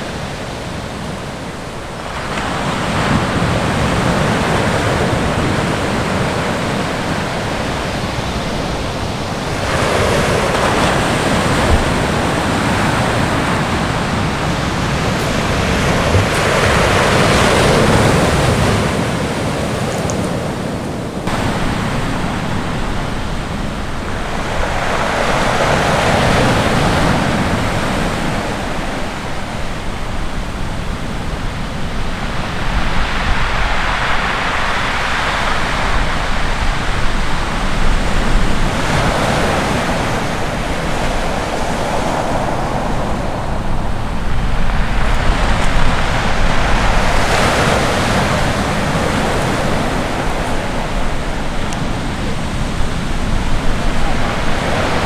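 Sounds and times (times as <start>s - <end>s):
surf breaking on shore: 0.0s - 55.0s.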